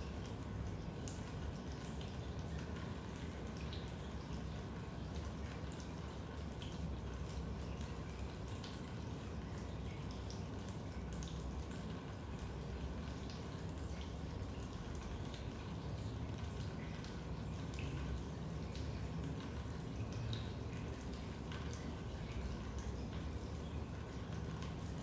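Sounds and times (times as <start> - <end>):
water drips: 0.0 - 25.0.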